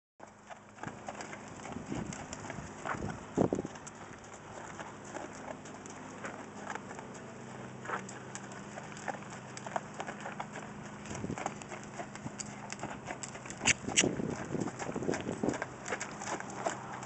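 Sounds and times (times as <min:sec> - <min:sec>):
horse hoofbeats on sand: 0:00.2 - 0:17.0.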